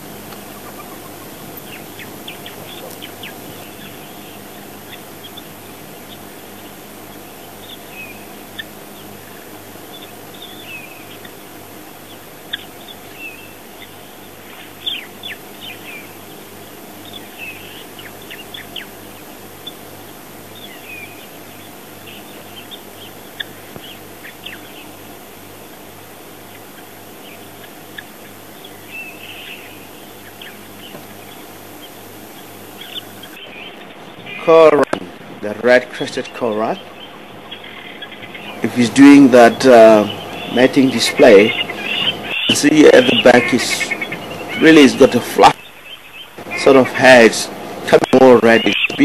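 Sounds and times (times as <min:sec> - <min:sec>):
birds chirping and whistling: 0:00.0 - 0:34.6, 0:36.1 - 0:47.0, 0:47.9 - 0:49.0
steady low hum: 0:00.0 - 0:49.0.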